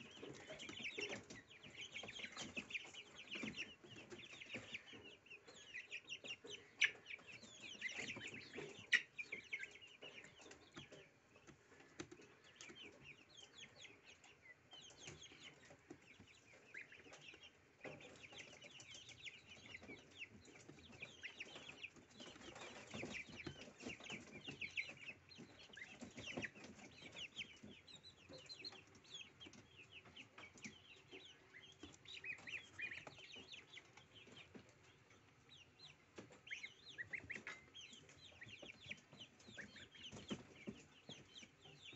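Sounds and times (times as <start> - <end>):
goslings peeping: 0.0 - 41.9.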